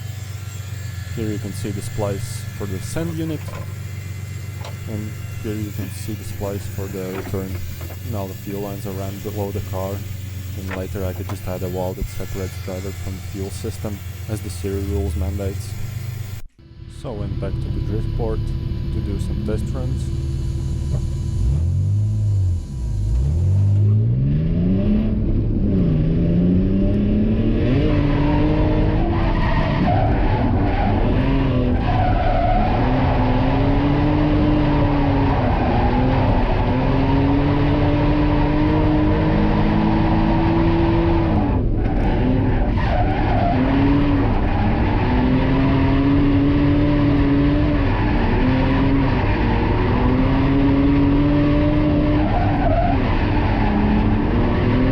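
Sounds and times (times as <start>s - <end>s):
tyres skidding and squealing: 0.0s - 16.4s, 19.0s - 54.9s
car engine revving hard: 0.9s - 16.3s, 17.3s - 54.9s.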